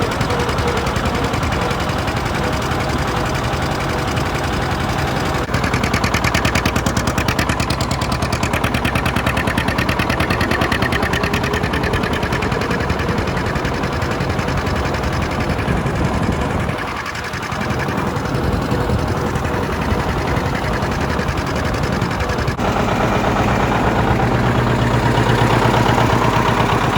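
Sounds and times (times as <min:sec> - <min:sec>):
diesel tractor engine popping: 0:00.0 - 0:26.9.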